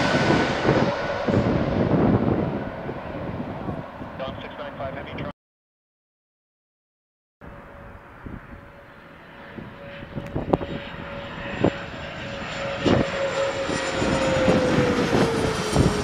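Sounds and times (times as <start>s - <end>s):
jet turbofans whining overhead: 0.0s - 5.3s, 7.4s - 16.0s.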